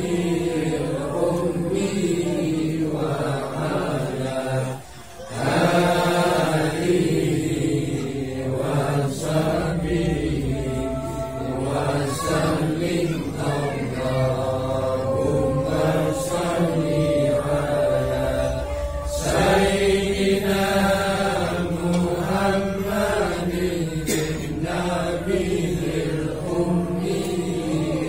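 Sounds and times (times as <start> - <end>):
men chanting in held notes: 0.0 - 28.0.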